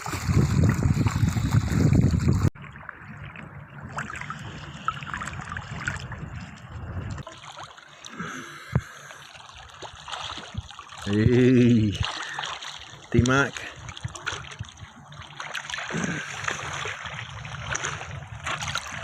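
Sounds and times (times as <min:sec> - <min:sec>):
low underwater rumble: 0:00.0 - 0:07.3, 0:07.9 - 0:19.0
water sloshing and gurgling: 0:00.0 - 0:19.0.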